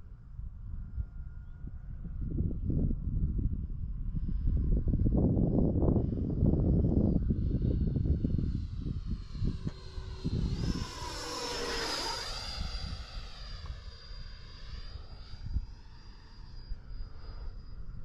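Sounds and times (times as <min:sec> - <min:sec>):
wind rumble on microphone: 0:00.0 - 0:18.0
ducted fan jet whining: 0:00.9 - 0:18.0.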